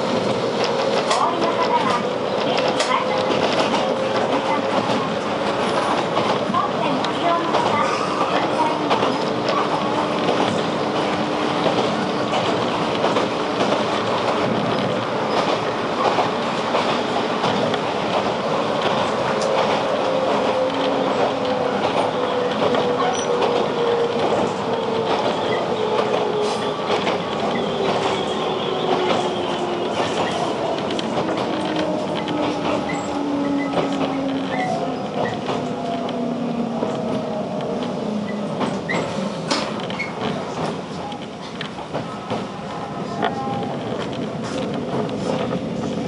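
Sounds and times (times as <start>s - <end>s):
train wheels on rails: 0.0s - 46.0s.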